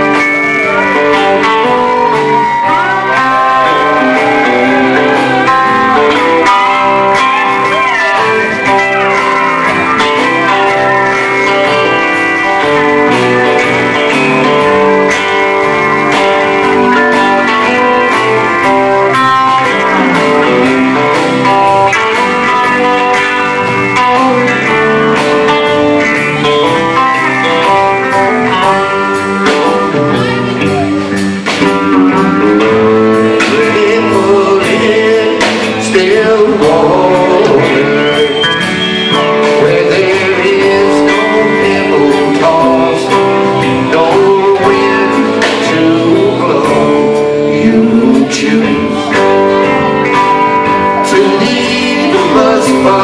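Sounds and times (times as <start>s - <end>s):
bass: 0.0s - 53.0s
drums: 0.0s - 53.0s
electric guitars: 0.0s - 53.0s
pedal steel guitar: 0.0s - 53.0s.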